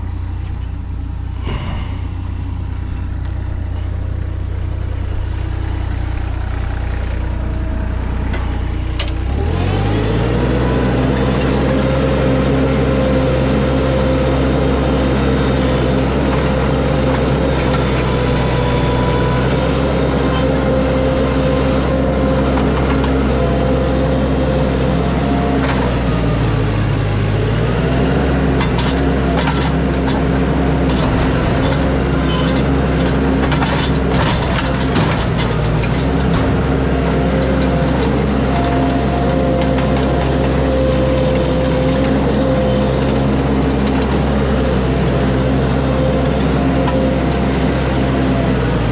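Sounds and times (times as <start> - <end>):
large vehicle engine revving: 0.0 - 48.9.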